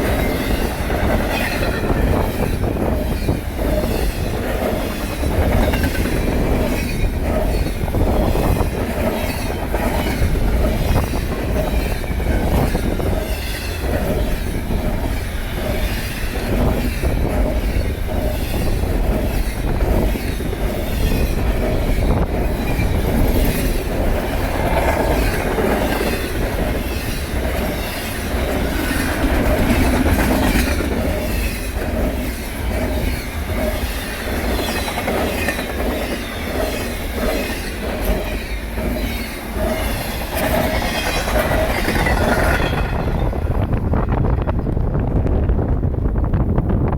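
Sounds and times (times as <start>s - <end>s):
train wheels clicking over rail joints: 0.0s - 46.4s
freight train rumble: 0.0s - 46.9s.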